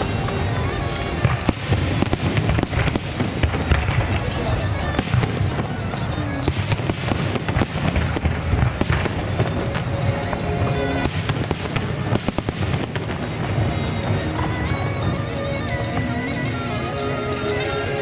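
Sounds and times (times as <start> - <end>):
firework bangs and crackles: 0.0 - 18.0.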